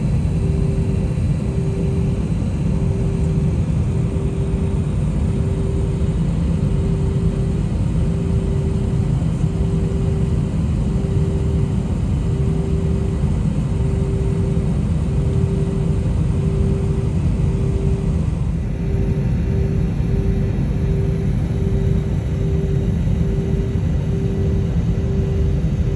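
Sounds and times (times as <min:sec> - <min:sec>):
airliner engine rumble: 0:00.0 - 0:25.9
mid-pitched hum: 0:00.0 - 0:25.9.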